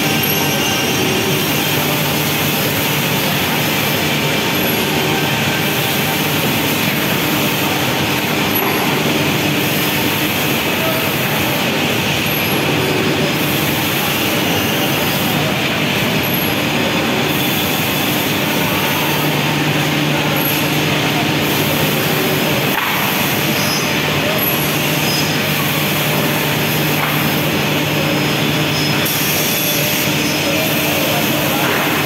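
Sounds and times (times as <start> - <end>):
cnc machinery noise: 0.0 - 32.0.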